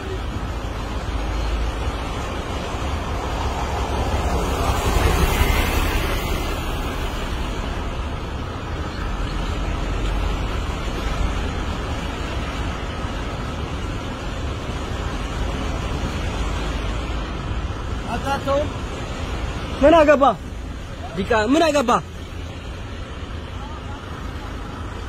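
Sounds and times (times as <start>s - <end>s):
car road and wind noise: 0.0s - 25.0s.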